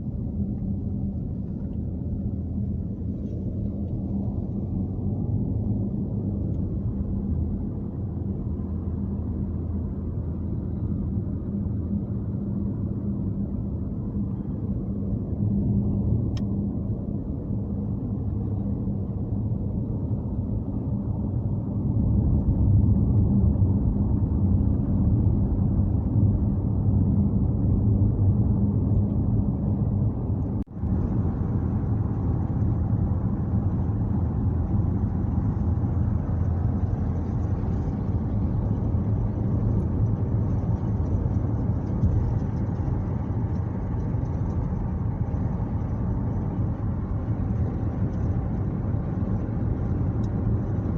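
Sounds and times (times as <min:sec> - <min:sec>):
car driving on road: 0:00.0 - 0:50.9.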